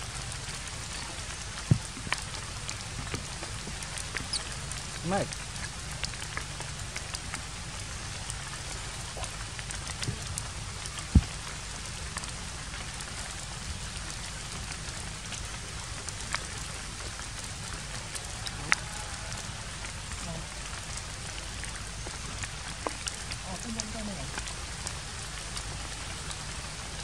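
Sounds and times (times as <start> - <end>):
light rain on foliage: 0.0 - 27.0.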